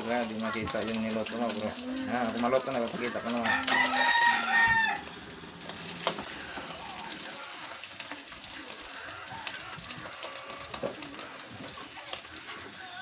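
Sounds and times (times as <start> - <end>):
egg sizzling in hot oil: 0.0 - 13.0.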